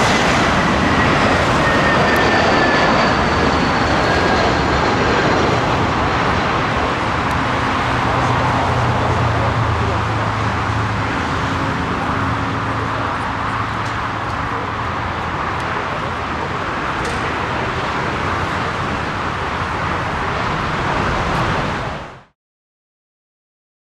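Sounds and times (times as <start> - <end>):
jet airliner engine rush: 0.0 - 22.4.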